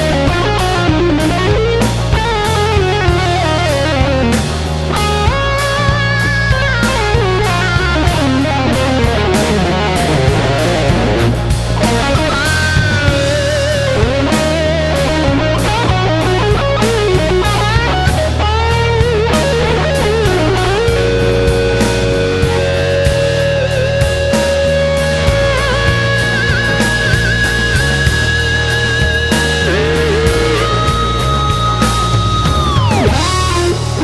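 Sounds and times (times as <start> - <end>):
bass guitar: 0.0 - 34.0
drums: 0.0 - 34.0
lead electric guitar melody: 0.0 - 34.0.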